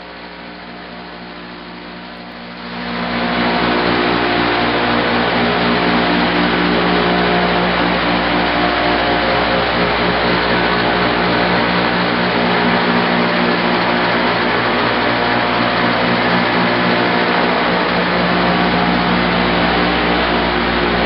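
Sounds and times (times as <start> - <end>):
sanding machine humming: 2.1 - 21.0.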